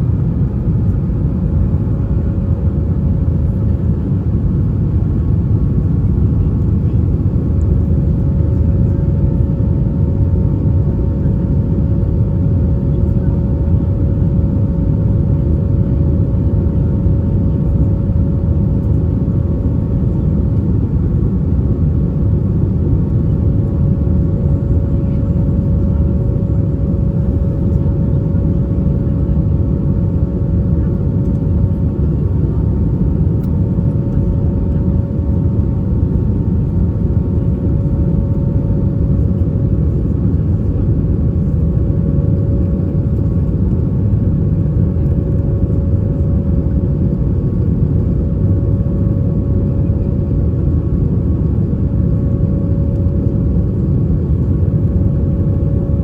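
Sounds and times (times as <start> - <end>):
aircraft engines roaring: 0.0 - 56.0.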